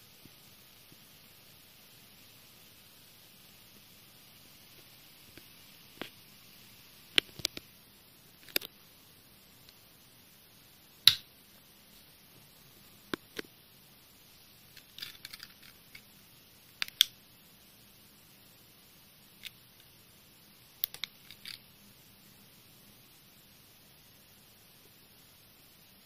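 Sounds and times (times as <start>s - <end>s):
faint hiss: 0.0s - 26.0s.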